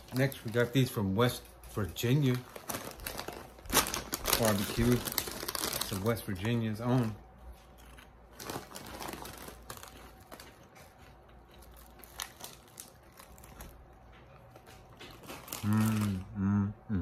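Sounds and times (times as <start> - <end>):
snack bag crinkling: 0.0 - 16.4.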